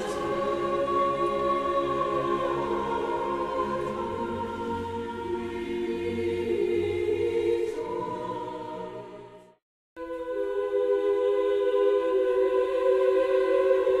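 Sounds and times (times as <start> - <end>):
choir-like held chords: 0.0 - 14.0.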